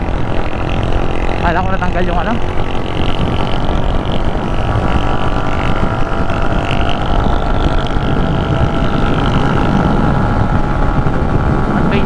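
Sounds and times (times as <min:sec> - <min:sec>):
motorcycle engine at speed: 0:00.0 - 0:12.0
wind rushing: 0:00.0 - 0:12.0.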